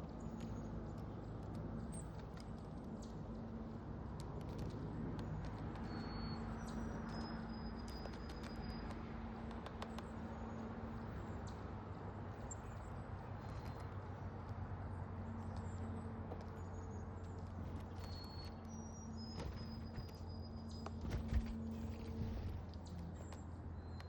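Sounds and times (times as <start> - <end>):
low hum and drone: 0.0 - 24.0.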